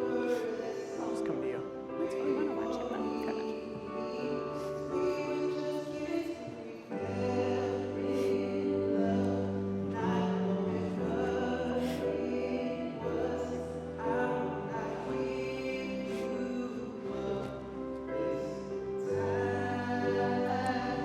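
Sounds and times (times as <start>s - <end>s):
slow music with singing: 0.0s - 21.0s.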